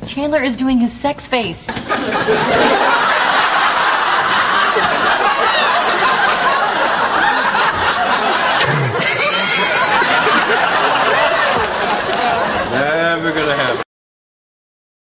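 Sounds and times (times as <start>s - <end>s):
audience laughing loudly: 1.7s - 13.8s.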